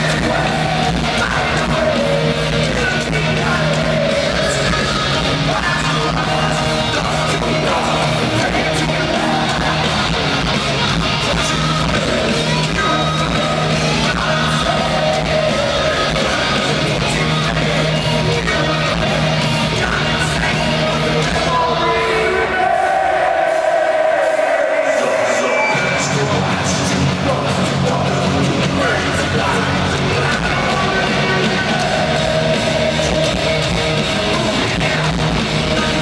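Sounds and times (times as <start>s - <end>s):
live rock band playing: 0.0s - 22.6s, 23.4s - 36.0s.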